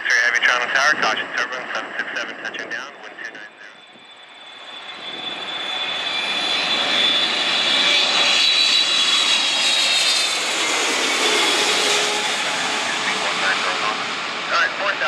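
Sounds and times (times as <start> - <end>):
jet engines with fan whine: 0.0 - 15.0.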